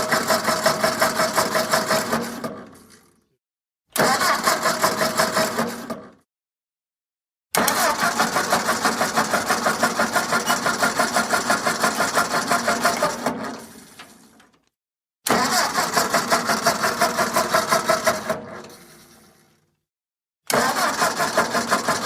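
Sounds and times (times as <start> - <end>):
engine cranking by starter motor: 0.0 - 3.3, 3.9 - 6.2, 7.5 - 19.8, 20.5 - 22.0.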